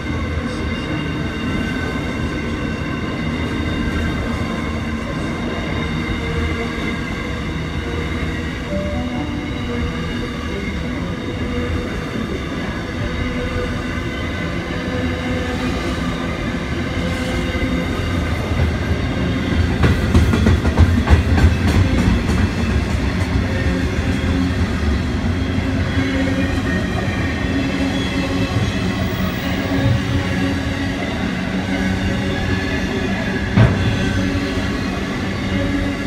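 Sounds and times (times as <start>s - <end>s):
rumble of steel wheels on rail: 0.0s - 8.7s, 9.6s - 36.0s.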